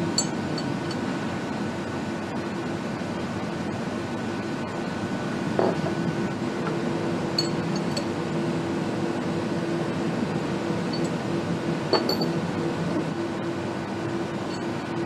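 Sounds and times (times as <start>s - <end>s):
machine hum with low drone: 0.0s - 15.0s.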